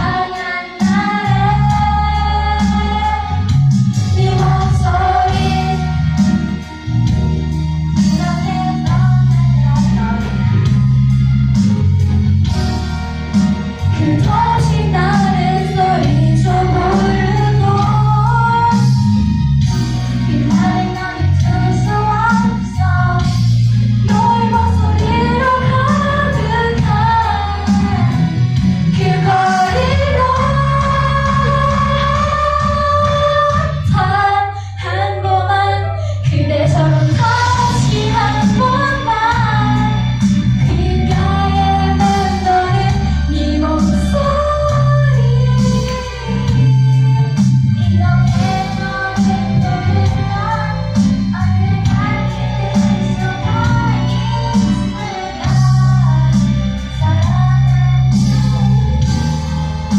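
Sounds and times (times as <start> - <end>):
person singing a slow ballad: 0.0 - 6.9, 8.0 - 11.2, 13.8 - 59.9
instrumental backing track: 0.0 - 59.9.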